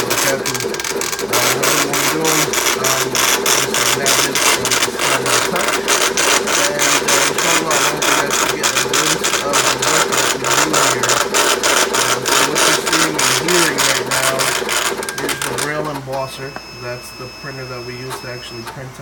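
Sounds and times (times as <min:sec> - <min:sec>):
braille embosser hammering: 0:00.0 - 0:15.7.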